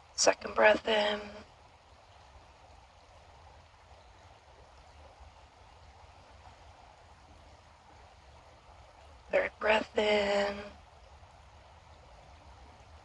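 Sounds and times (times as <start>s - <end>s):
creek flowing over stones: 0.0s - 13.0s.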